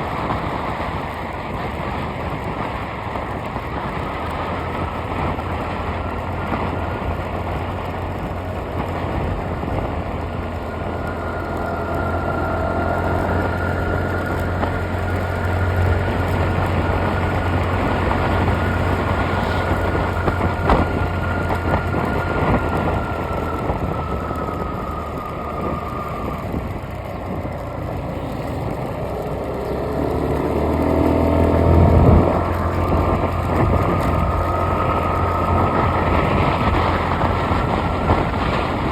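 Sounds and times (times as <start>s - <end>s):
road noise: 0.0s - 38.9s
vehicle engine drone: 0.0s - 38.9s.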